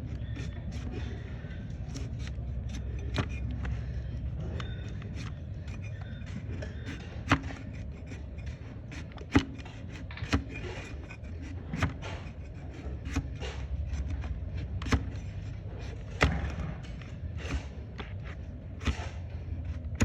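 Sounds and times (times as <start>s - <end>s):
blade cutting hoof knocks: 0.0s - 20.0s
blade scraping hoof: 0.0s - 20.0s.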